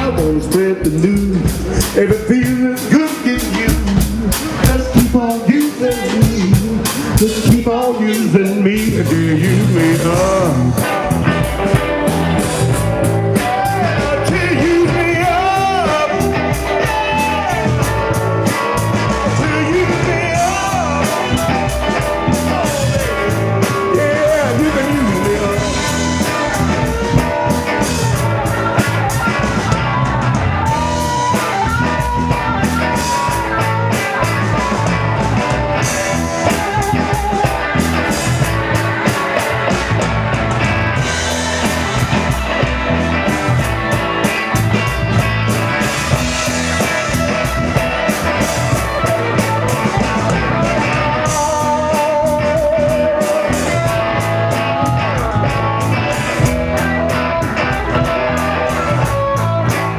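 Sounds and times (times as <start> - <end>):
bass: 0.0 - 59.9
electric guitar lines with bends: 0.0 - 59.9
steady drum beat: 0.0 - 59.9.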